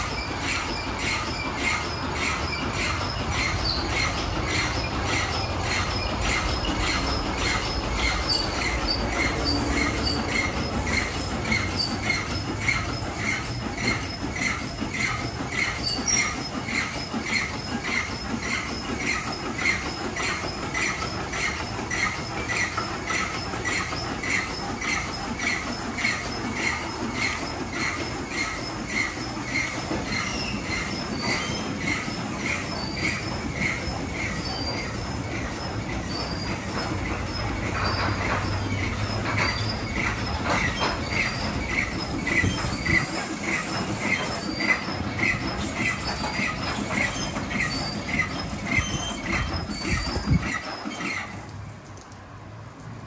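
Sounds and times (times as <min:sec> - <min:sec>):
car wash machine hissing: 0:00.0 - 0:53.0
squeak and click: 0:00.1 - 0:51.5.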